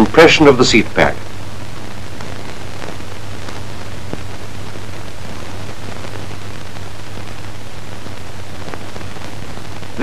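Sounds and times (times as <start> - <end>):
crackle clicks: 0.0 - 10.0
film soundtrack hiss: 0.0 - 10.0.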